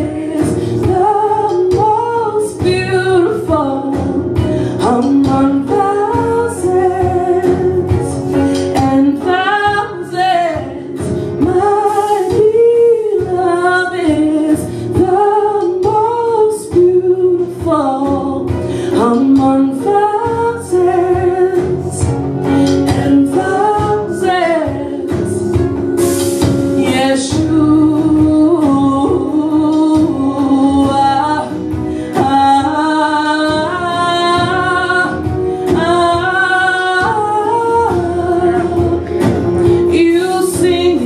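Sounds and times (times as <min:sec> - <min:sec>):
backing music with held chords: 0:00.0 - 0:41.0
woman singing into a microphone: 0:00.0 - 0:41.0.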